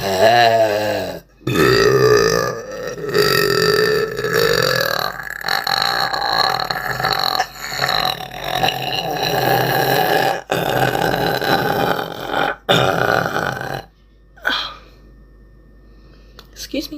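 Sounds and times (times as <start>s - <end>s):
woman burping: 0.0s - 14.7s.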